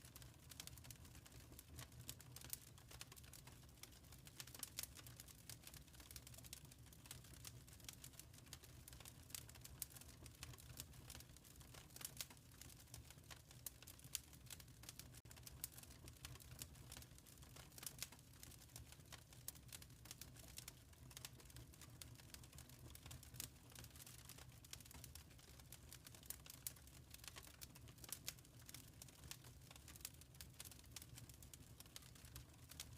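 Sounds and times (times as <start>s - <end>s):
fire crackling: 0.1s - 32.9s.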